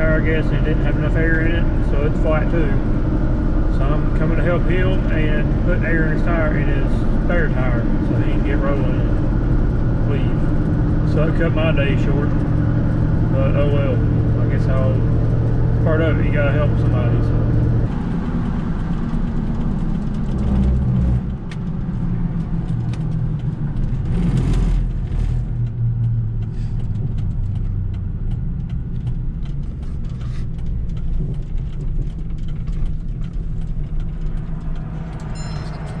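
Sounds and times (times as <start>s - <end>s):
road and engine rumble in vehicle: 0.0s - 36.0s.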